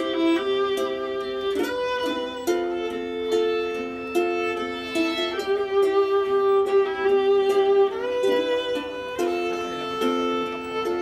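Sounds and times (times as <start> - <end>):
small stringed instrument plucked: 0.0 - 11.0
violin melody: 0.0 - 11.0.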